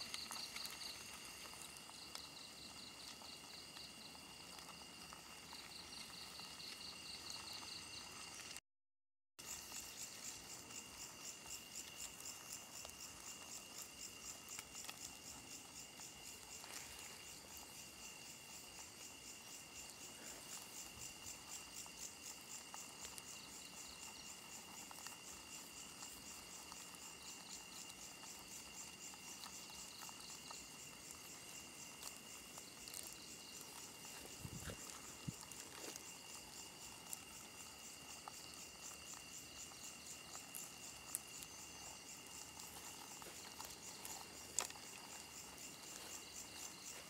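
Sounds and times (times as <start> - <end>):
high-pitched insect trill: 0.0 - 8.6, 9.4 - 47.0
pulsing high insect chirp: 0.0 - 8.6, 9.4 - 47.0.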